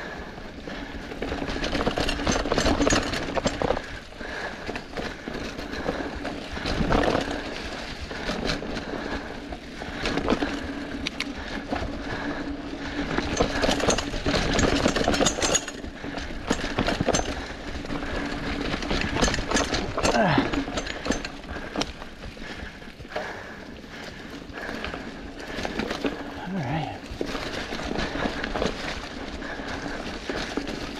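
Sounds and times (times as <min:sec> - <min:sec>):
tires crunching through leaves: 0:00.0 - 0:15.0, 0:15.7 - 0:30.9
bike rattling and knocking: 0:00.0 - 0:30.9.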